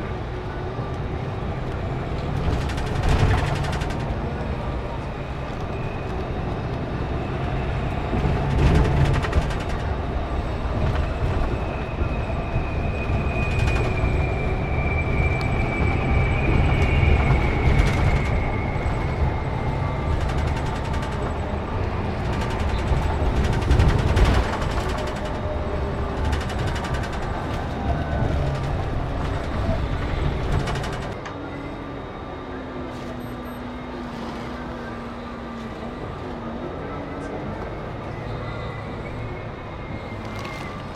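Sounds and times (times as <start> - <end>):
coach engine and road rumble: 0.0 - 40.9.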